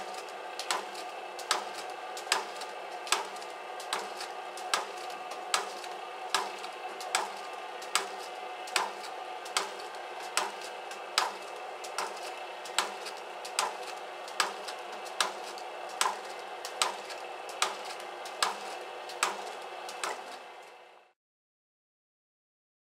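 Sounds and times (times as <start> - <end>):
sharp machine clicks: 0.0 - 20.8
machine motor whirring: 0.0 - 21.1.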